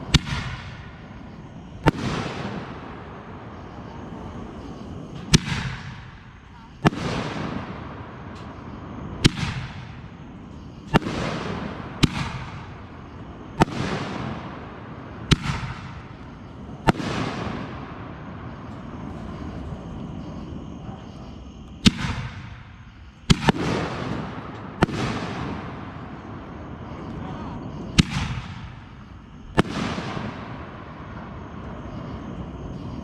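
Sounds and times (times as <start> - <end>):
fireworks bangs with crackling tails: 0.0 - 33.0.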